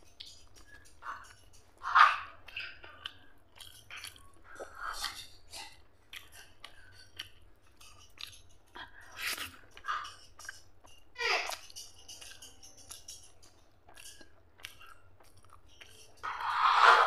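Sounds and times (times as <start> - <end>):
chewing soft food: 0.0 - 17.0.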